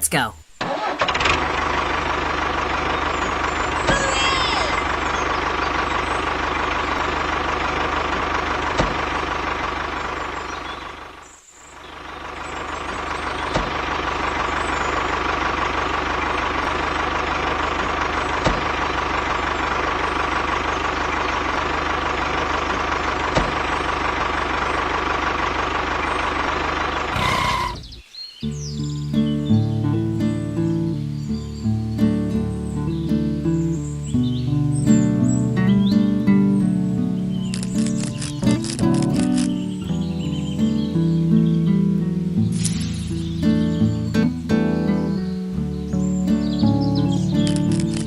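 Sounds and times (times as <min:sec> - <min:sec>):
tractor engine running with whine: 0:00.0 - 0:28.7, 0:29.4 - 0:48.0.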